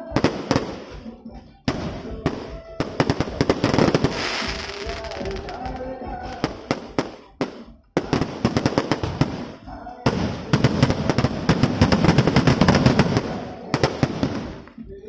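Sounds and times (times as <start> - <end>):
fireworks bangs: 0.0 - 1.1, 1.7 - 14.8
fireworks crackling: 0.0 - 1.1, 1.7 - 14.8.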